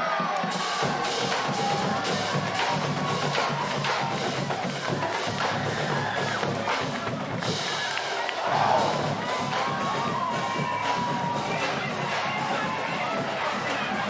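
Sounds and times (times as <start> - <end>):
drumline beat: 0.0 - 14.0
marching band playing: 0.0 - 14.0.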